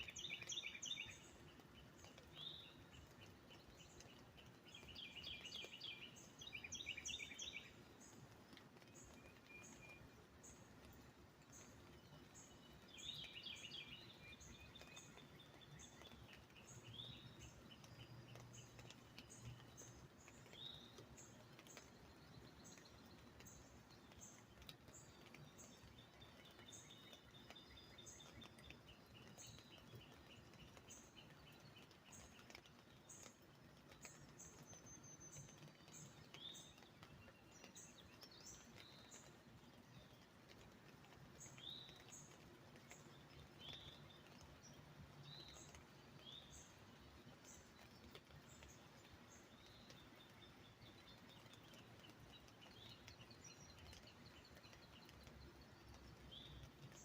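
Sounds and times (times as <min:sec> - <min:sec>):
soft steady hiss: 0:00.0 - 0:57.0
songbirds whistling and trilling: 0:00.0 - 0:57.0.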